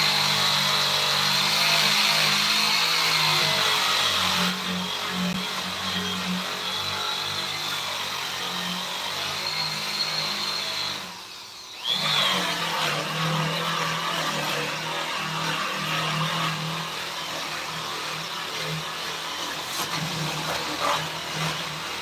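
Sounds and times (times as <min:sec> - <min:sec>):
power tool whining: 0:00.0 - 0:22.0.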